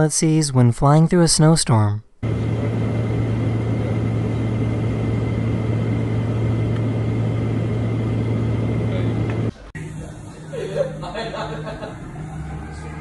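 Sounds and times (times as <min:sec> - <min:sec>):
aircraft engine hum: 0:02.2 - 0:13.0
airflow noise: 0:02.2 - 0:13.0
faint high whine: 0:02.2 - 0:13.0.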